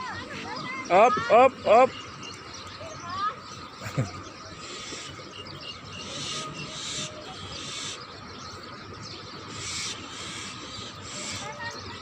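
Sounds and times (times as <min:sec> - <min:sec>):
faint bird calls: 0:00.0 - 0:12.0
outdoor background noise: 0:00.0 - 0:12.0.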